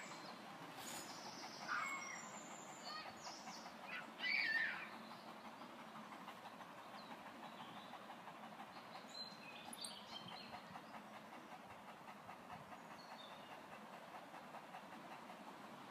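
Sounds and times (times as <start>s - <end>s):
dog panting: 0.0s - 15.9s.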